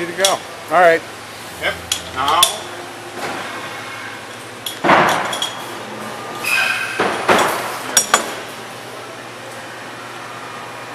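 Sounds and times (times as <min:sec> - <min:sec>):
low machine hum: 0:00.0 - 0:10.9.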